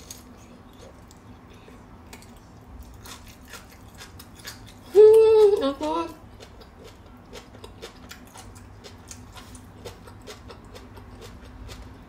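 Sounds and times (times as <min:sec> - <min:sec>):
chewing crunchy fish roe: 0:00.0 - 0:12.0.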